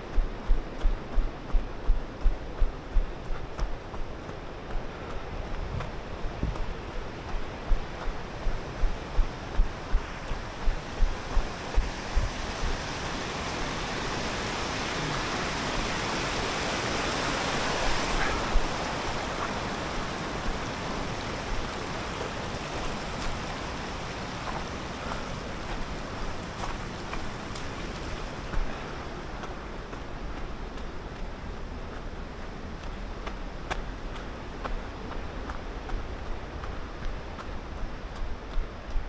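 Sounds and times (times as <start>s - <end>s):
rushing mountain stream: 0.0s - 39.0s.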